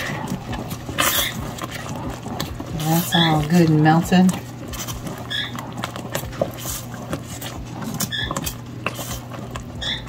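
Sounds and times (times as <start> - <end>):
spoon scraping a metal pot: 0.0 - 10.0
steady low hum: 0.0 - 10.0.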